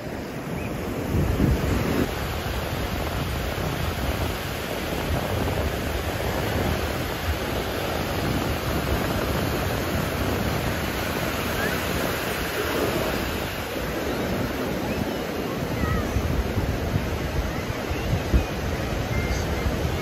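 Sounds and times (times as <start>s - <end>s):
ocean surf washing up: 0.0s - 20.0s.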